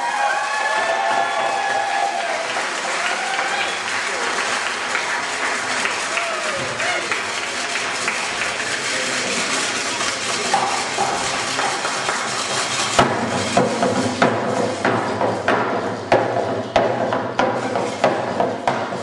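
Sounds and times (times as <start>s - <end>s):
murmur of noise: 0.0s - 19.0s
drum beating steadily: 0.1s - 19.0s.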